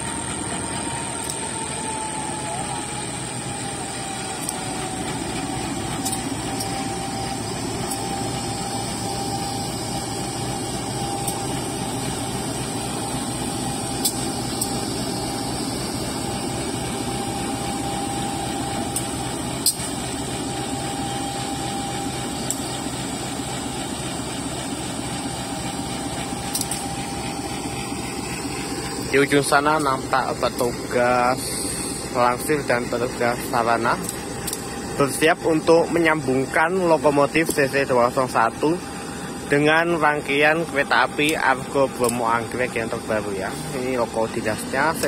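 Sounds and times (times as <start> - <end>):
locomotive engine rumble: 0.0 - 45.0
steady whine: 0.0 - 45.0.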